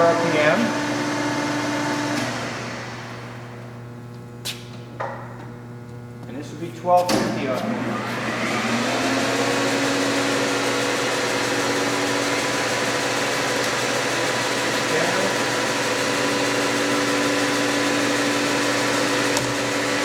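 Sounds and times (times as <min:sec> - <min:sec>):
lathe mechanical whine: 0:00.0 - 0:04.0, 0:06.8 - 0:20.0.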